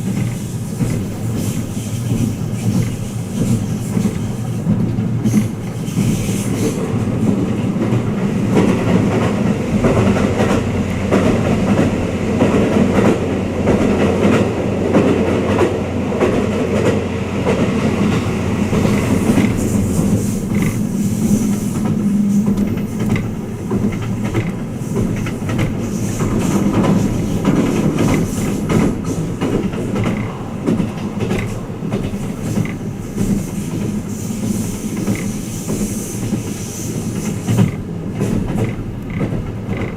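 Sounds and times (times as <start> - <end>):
track clicks and knocks: 0.0 - 36.6, 37.2 - 39.9
train wheels rumbling on rails: 0.0 - 39.9.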